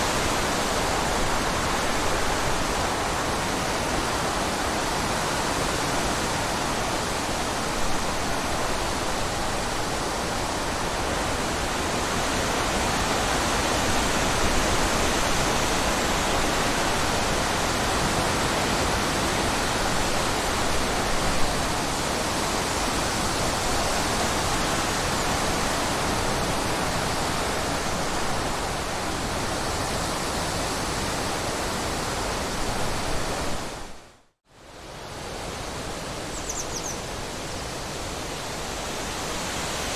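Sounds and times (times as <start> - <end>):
running water rushing: 0.0 - 34.0, 34.9 - 39.9.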